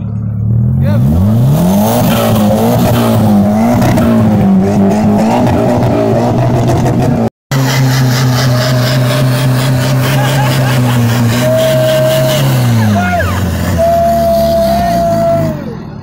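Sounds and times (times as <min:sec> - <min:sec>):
car engine revving hard: 0:00.4 - 0:15.6.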